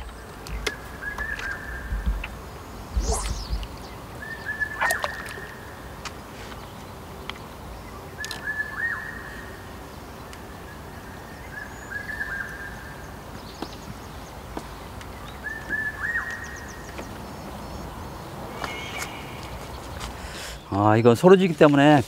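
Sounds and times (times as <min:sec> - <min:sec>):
bird singing: 0:00.0 - 0:21.1
outdoor background noise: 0:00.0 - 0:22.0.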